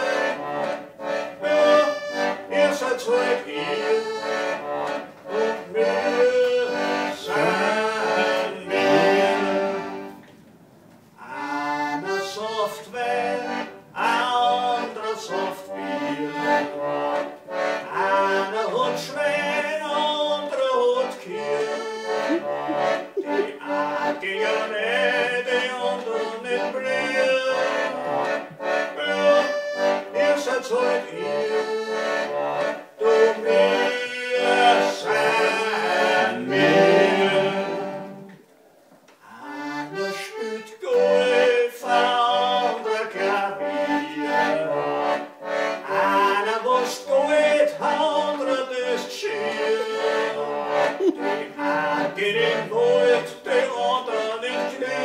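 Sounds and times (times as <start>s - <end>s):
accordion playing: 0.0s - 10.4s, 11.0s - 38.4s, 39.3s - 55.0s.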